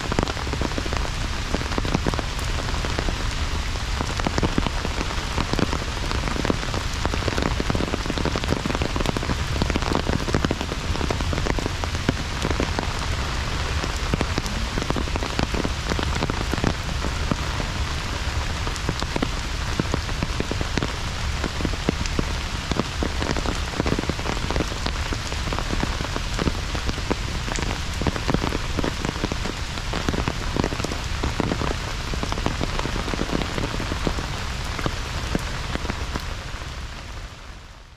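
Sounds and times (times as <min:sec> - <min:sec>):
heavy rain falling: 0:00.0 - 0:37.9.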